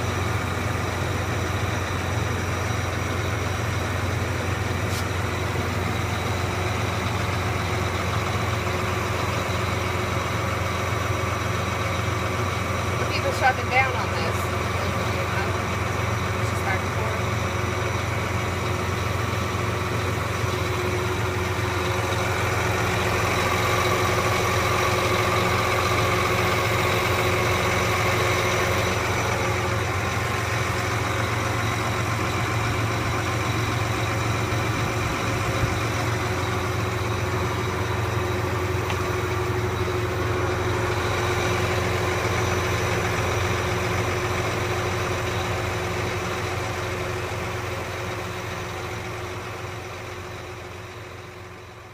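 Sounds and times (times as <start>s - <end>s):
tractor engine idling: 0.0s - 51.9s.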